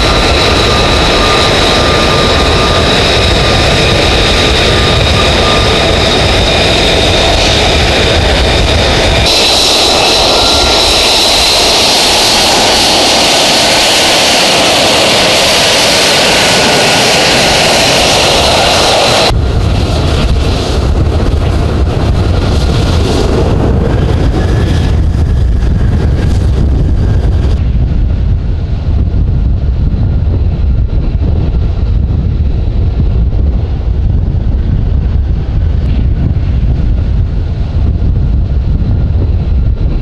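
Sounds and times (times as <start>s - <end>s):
jet engine rumble: 0.0s - 40.0s.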